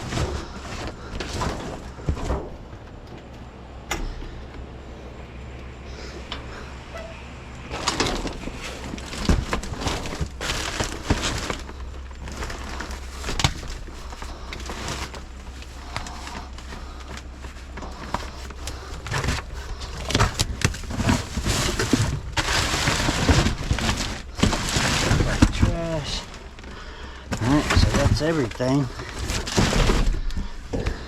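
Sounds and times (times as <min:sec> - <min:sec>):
scrap being rummaged through: 0:00.0 - 0:02.9, 0:07.7 - 0:31.0
steady low hum: 0:00.0 - 0:31.0.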